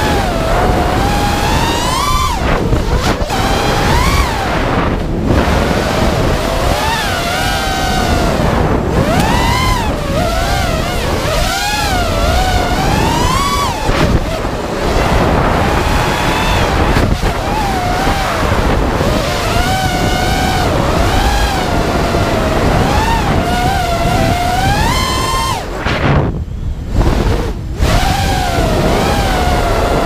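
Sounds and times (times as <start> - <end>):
drone motors whining: 0.0 - 30.0
wind rushing over microphone: 0.0 - 30.0.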